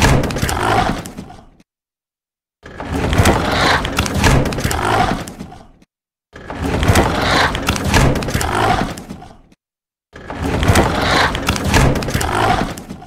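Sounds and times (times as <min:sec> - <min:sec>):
creature roar: 0:00.3 - 0:01.6, 0:02.6 - 0:05.8, 0:06.4 - 0:09.5, 0:10.2 - 0:13.0.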